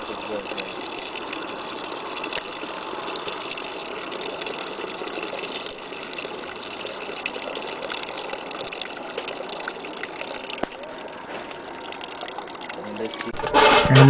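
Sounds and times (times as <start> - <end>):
water stream splashing into bucket: 0.0 - 13.7.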